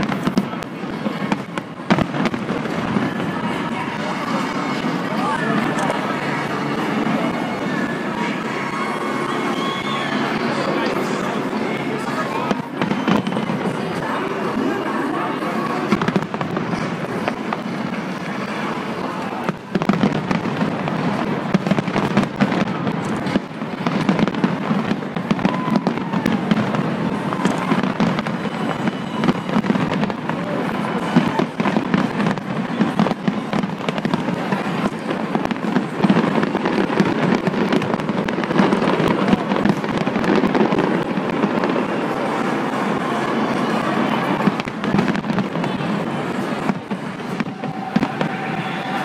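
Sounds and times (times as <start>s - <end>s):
fireworks bangs and crackle: 0.0s - 49.0s.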